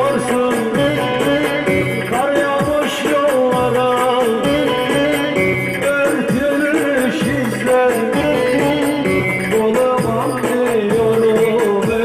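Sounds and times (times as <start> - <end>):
amplified lute melody: 0.0 - 10.7
man singing into microphone: 0.0 - 12.0.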